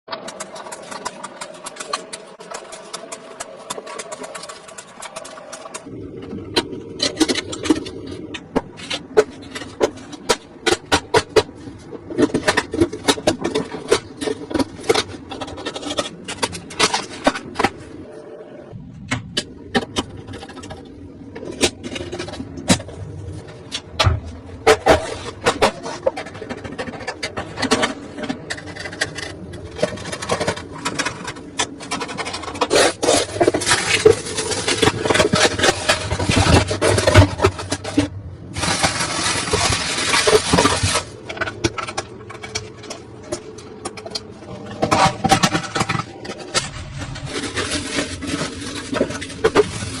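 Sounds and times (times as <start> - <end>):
scraping and rubbing of parts: 0.1 - 50.0.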